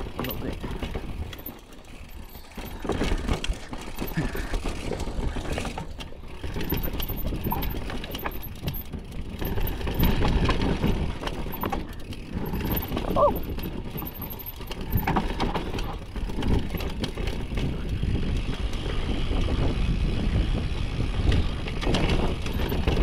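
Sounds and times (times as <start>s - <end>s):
bike rattling clicks and knocks: 0.0s - 23.0s.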